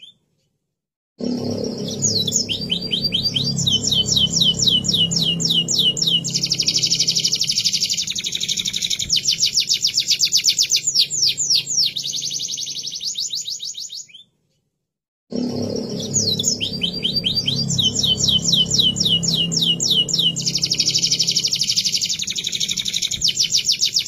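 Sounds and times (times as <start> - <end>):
canary singing: 0.0 - 0.2, 1.5 - 14.3, 15.7 - 24.0
low background hum: 1.4 - 12.9, 15.5 - 24.0.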